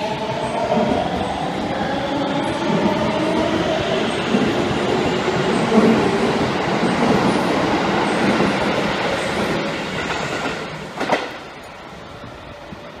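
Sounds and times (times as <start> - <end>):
electric train passing on rails: 0.0 - 13.0.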